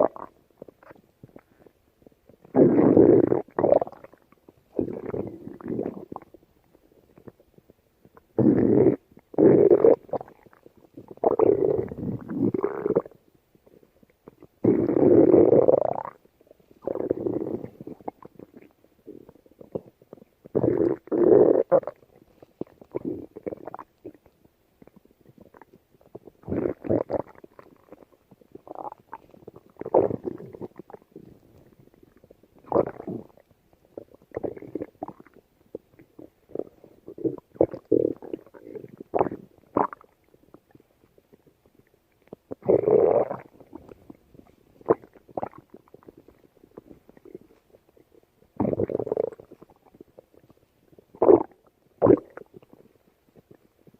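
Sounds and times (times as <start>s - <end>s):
stomach gurgles: 0.0s - 53.9s
stomach rumbling: 0.0s - 53.9s.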